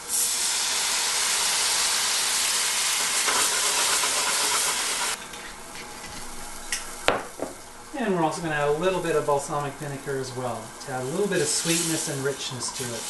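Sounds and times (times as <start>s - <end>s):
wine sizzling in a hot pan: 0.0s - 13.0s.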